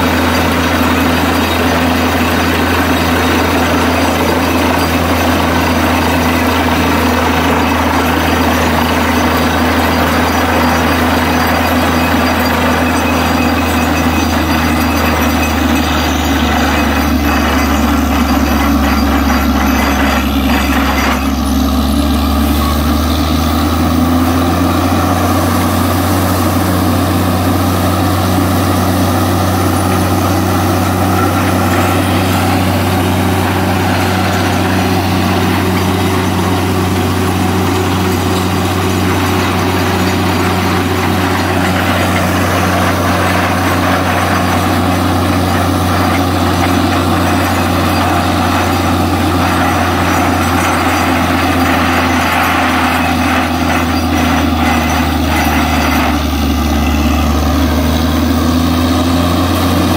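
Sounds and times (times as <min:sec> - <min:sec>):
heavy drilling rig engine: 0:00.0 - 0:59.9.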